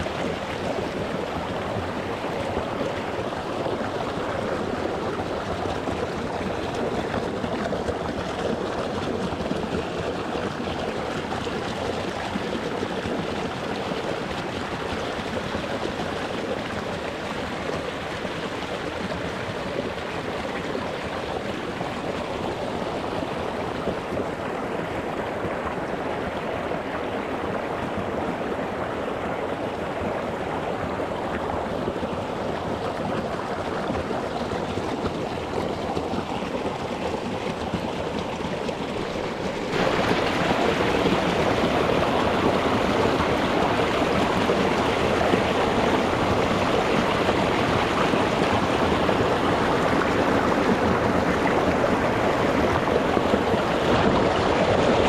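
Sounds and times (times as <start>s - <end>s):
water running over rocks: 0.0s - 55.0s.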